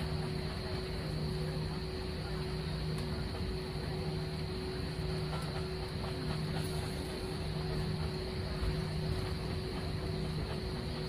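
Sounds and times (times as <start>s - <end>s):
jet engines humming: 0.0s - 11.0s.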